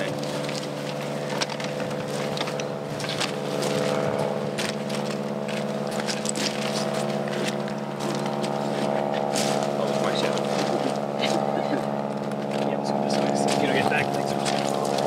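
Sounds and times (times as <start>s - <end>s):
clicks and scrapes on gravel: 0.0s - 11.4s, 12.2s - 15.0s
steady engine drone: 0.0s - 15.0s.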